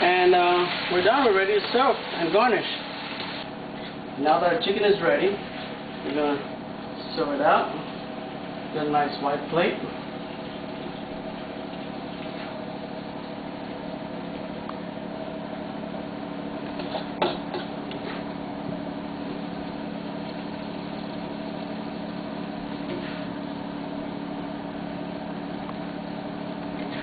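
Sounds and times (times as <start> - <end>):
kitchen fan humming: 0.0 - 27.0.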